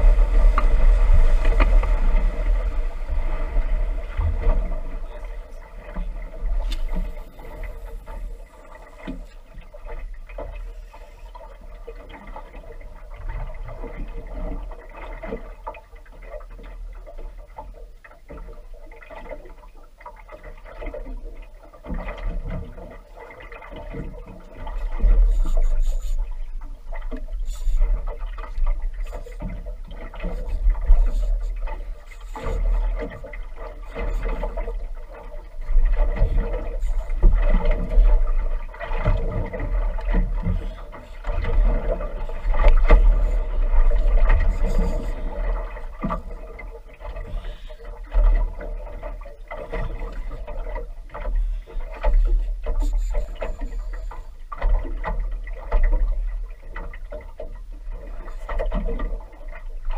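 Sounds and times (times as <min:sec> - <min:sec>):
outboard motor: 0:00.0 - 0:59.9
waves slapping against hull: 0:00.0 - 0:59.9.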